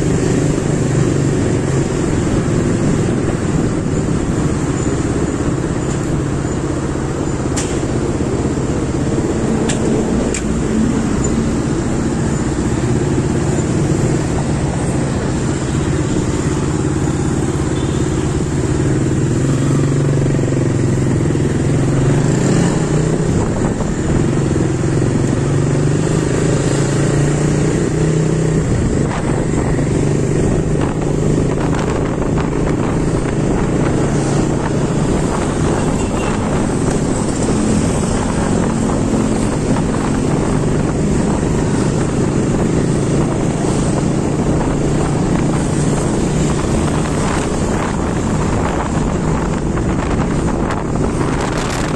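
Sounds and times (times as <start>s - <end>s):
traffic: 0.0s - 51.9s.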